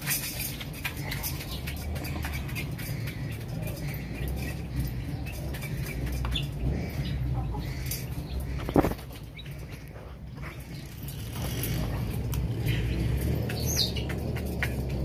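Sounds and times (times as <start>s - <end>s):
chicks pecking at metal dish: 0.0s - 15.0s
steady low rumble: 0.8s - 15.0s.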